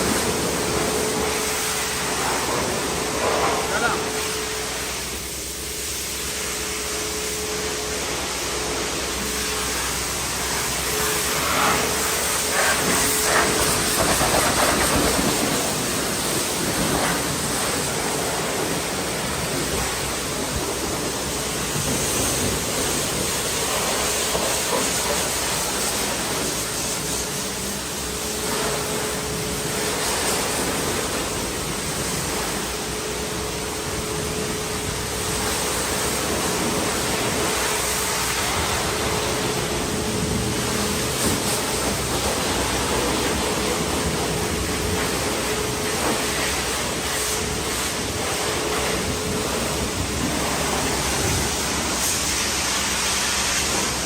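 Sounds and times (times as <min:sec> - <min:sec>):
pressure washer spraying water: 0:00.0 - 0:54.0.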